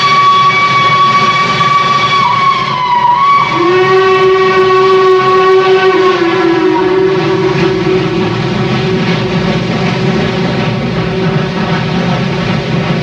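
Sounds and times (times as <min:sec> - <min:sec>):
steam locomotive whistle blast: 0:00.0 - 0:10.5
train rumbling past: 0:00.0 - 0:13.0.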